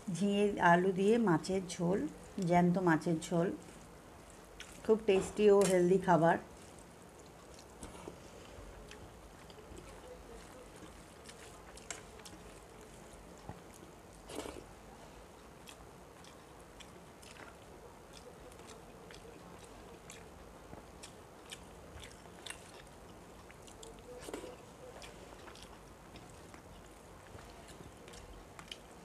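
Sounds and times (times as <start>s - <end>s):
chewing: 3.6s - 4.9s, 6.4s - 29.0s.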